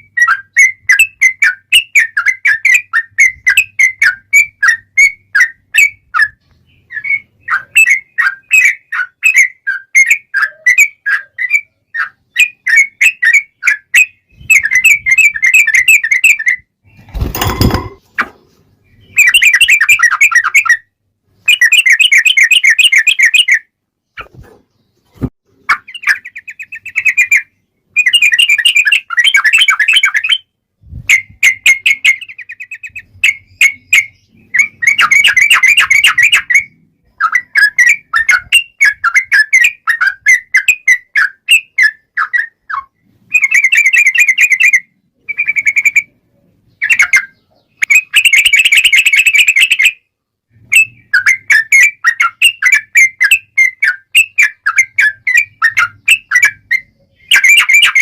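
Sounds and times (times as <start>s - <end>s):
bird chattering song: 0.0s - 30.5s, 31.1s - 50.0s, 50.6s - 58.0s.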